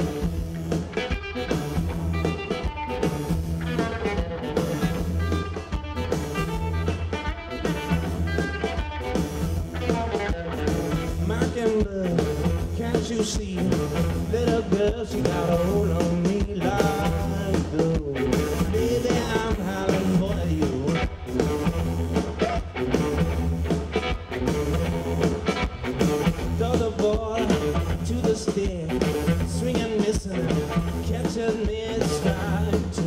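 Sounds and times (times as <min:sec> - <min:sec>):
drums: 0:00.0 - 0:33.0
electric guitar: 0:00.0 - 0:33.0
keyboards: 0:00.0 - 0:33.0.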